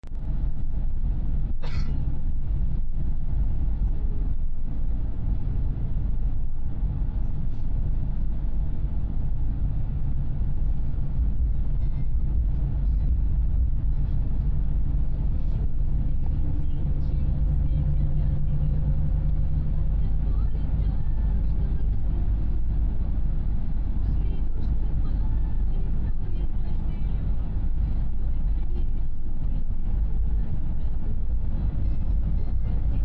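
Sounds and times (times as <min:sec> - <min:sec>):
engine and road rumble: 0:00.0 - 0:33.0.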